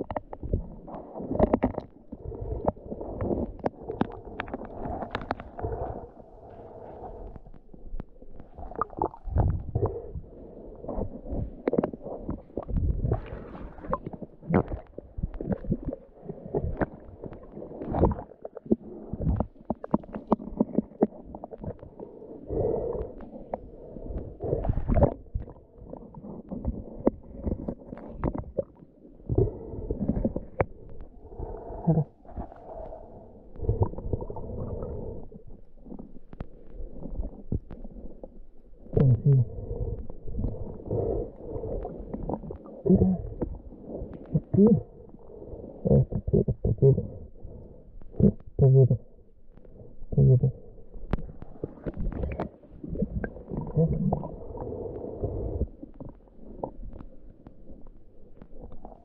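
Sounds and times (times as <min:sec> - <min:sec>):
water gurgling underwater: 0:00.0 - 0:59.0.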